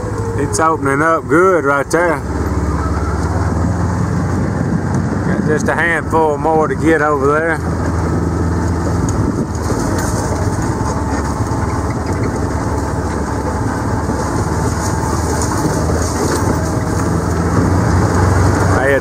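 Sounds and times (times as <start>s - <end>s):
light rattles over bumps: 0.0s - 19.0s
vehicle engine running: 0.0s - 19.0s.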